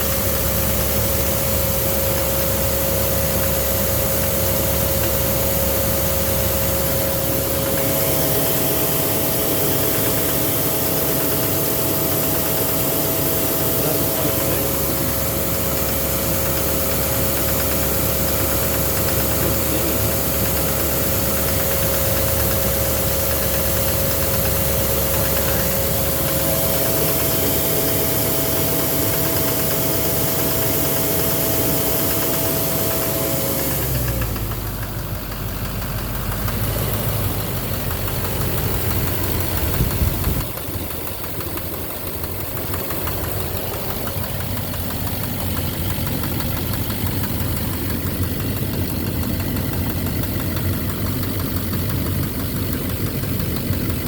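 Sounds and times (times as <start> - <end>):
diesel engine idling: 0.0 - 54.0
steady whine: 0.0 - 54.0.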